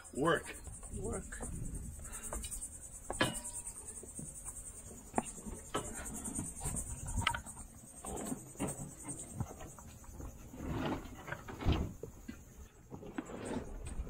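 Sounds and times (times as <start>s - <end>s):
high-pitched insect buzz: 0.0s - 12.8s.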